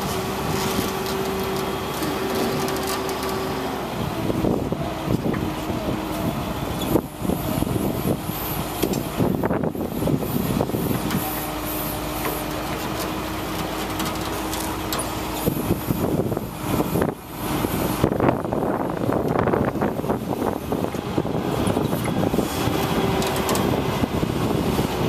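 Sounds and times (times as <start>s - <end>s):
truck engine hum: 0.0s - 25.0s.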